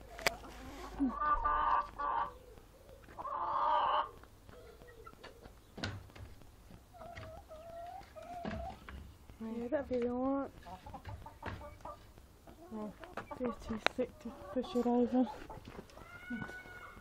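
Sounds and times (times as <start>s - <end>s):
hens clucking and calling: 0.0s - 17.0s.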